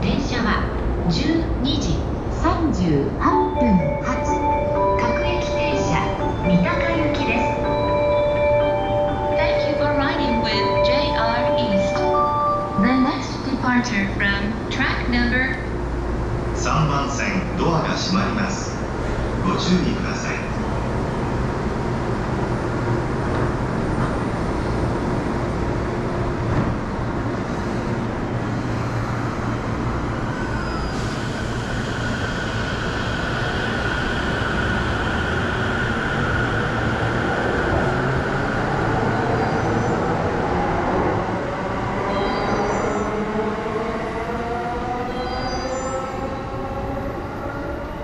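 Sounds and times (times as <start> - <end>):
electric train rumble and whine: 0.0 - 48.0.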